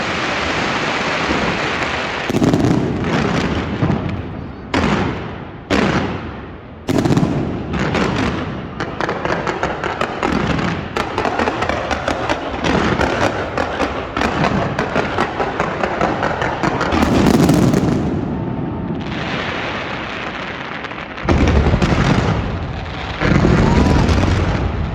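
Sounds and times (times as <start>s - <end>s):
loud firework bangs with echo: 0.0s - 24.9s
rapid crackling of fireworks: 0.0s - 24.9s.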